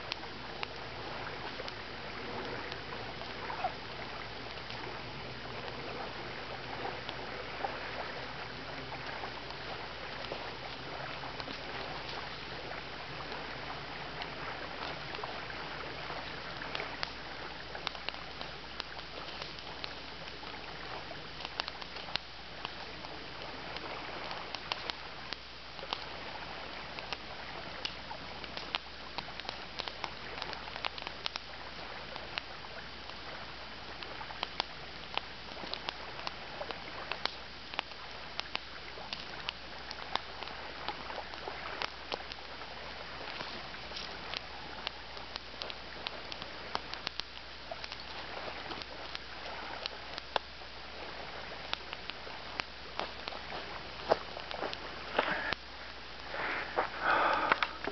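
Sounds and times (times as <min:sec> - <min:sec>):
campfire crackling and popping: 0:00.0 - 0:57.9
steady background hiss: 0:00.0 - 0:57.9.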